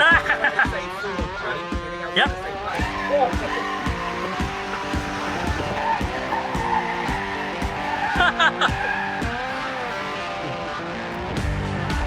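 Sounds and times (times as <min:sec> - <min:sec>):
background music with steady beat: 0:00.0 - 0:12.0
tires squealing: 0:00.0 - 0:12.0.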